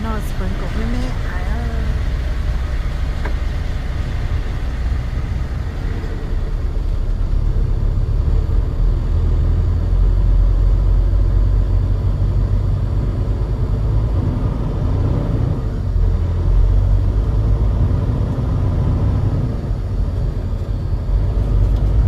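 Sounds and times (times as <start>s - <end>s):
truck engine and road rumble: 0.0s - 22.0s.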